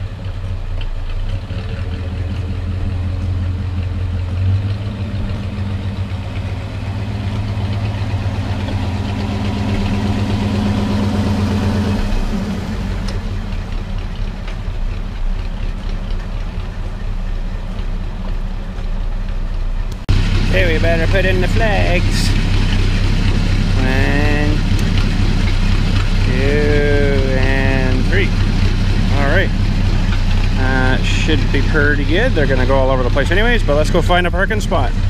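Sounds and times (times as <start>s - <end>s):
tractor engine driving past: 0.0s - 35.0s.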